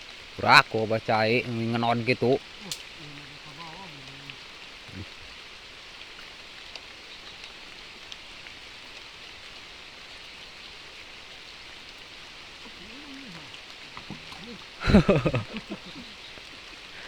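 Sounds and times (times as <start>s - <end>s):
rain hiss: 0.0s - 17.0s
raindrops ticking: 0.0s - 17.0s.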